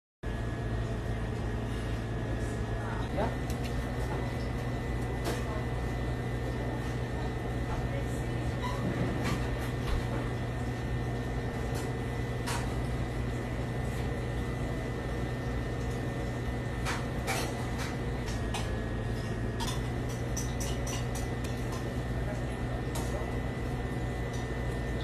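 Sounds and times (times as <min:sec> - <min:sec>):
low machine hum: 0:00.2 - 0:25.0.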